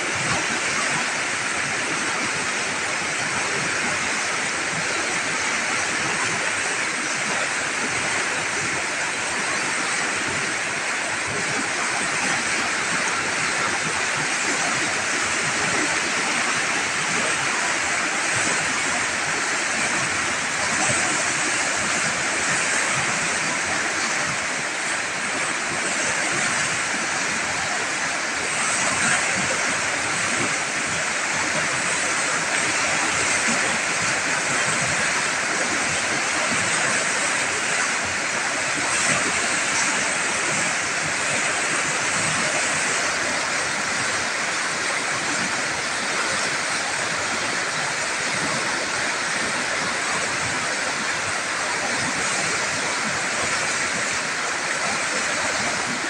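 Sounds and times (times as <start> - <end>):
floodwater rushing over rapids: 0.0 - 56.0.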